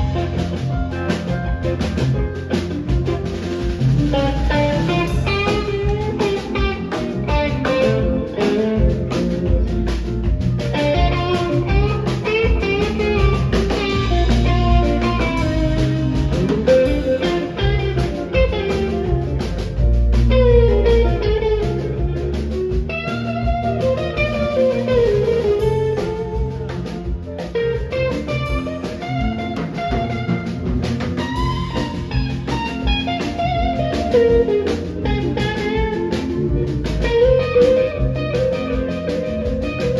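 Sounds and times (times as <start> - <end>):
bass guitar: 0.0 - 39.9
drum kit beat: 0.0 - 39.9
electric guitar lead: 0.0 - 39.9.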